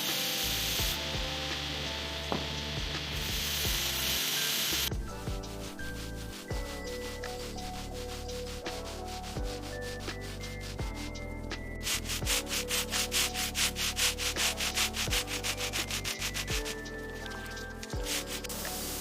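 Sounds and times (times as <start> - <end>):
low music bed: 0.0 - 19.0
rapid sanding strokes: 3.0 - 19.0.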